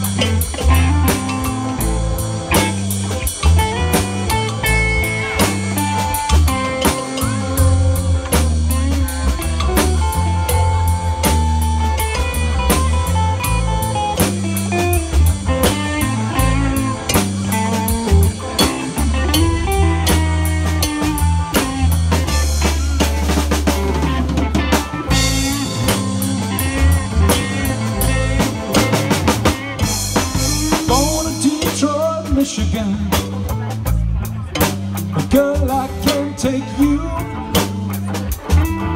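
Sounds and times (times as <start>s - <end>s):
bass guitar: 0.0s - 38.9s
drum kit: 0.0s - 38.9s
electric guitar with bent notes: 0.0s - 38.9s.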